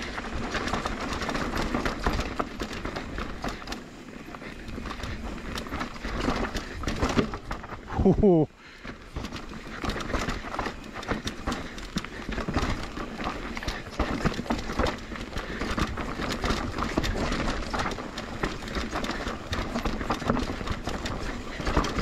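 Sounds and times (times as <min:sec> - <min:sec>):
bike rattling over rocks: 0:00.0 - 0:22.0.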